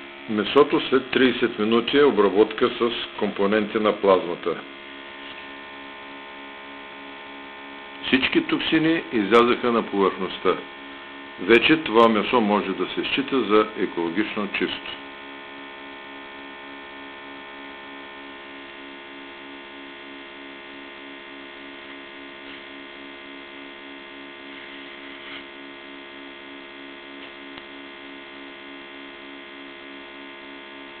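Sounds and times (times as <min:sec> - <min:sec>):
electrical hum with pulsing tone: 0:00.0 - 0:31.0.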